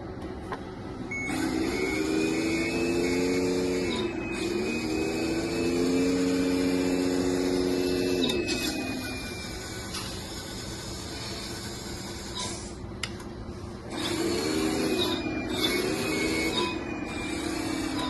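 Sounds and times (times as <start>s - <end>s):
electric pump humming with whine: 0.0s - 18.0s.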